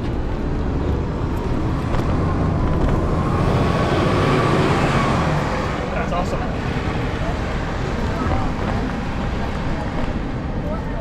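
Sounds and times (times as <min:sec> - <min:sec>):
street traffic: 0:00.0 - 0:11.0
vehicle whine: 0:00.0 - 0:11.0
wind rumbling on microphone: 0:00.0 - 0:11.0.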